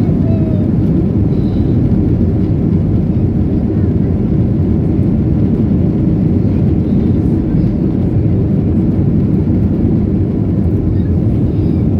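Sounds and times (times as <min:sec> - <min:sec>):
jet engines rumbling in cabin: 0:00.0 - 0:11.9.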